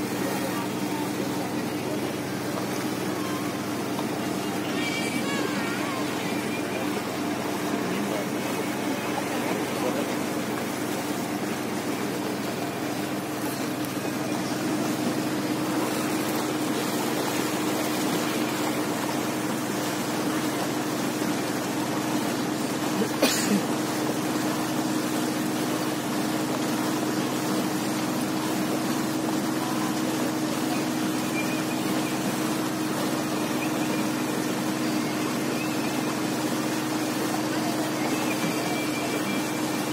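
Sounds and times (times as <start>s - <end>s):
motorboat engine drone: 0.0s - 39.9s
water and wind rushing: 0.0s - 39.9s.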